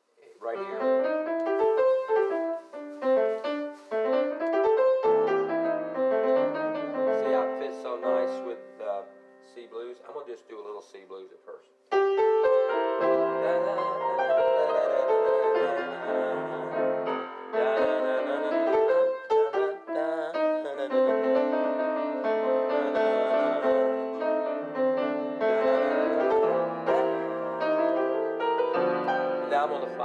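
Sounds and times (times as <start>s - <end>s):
out-of-tune piano playing blues: 0.4s - 10.4s, 11.9s - 30.0s.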